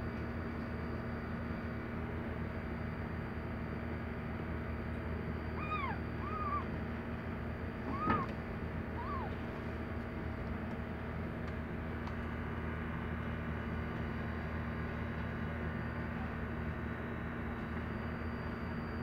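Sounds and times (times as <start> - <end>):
low machine hum with hiss: 0.0 - 19.0.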